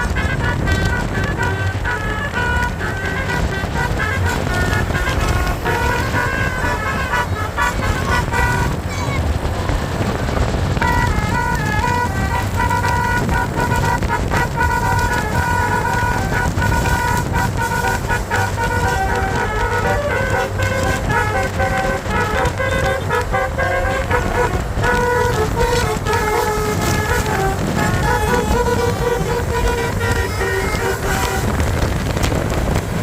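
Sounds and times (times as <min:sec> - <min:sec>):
low rumble: 0:00.0 - 0:33.0
multi-tone bus horn tune: 0:00.0 - 0:33.0.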